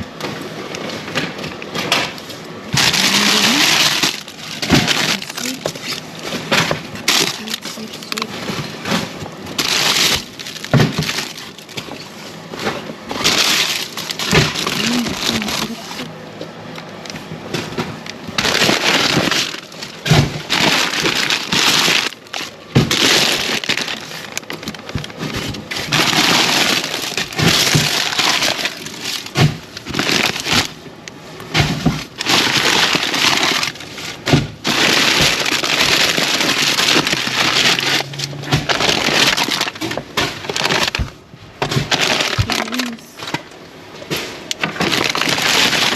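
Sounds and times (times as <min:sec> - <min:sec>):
plastic bags rustling and crinkling: 0:00.0 - 0:45.9.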